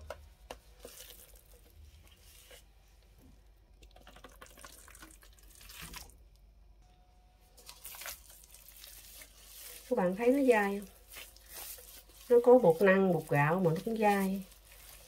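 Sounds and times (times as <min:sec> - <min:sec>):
soft wet dough noises: 0:00.0 - 0:06.8, 0:07.5 - 0:15.0.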